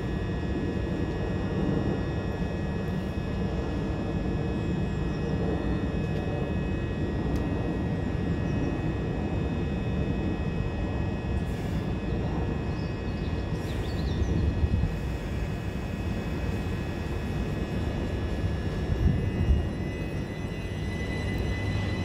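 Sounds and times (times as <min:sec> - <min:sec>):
electric train humming and whining: 0:00.0 - 0:22.0.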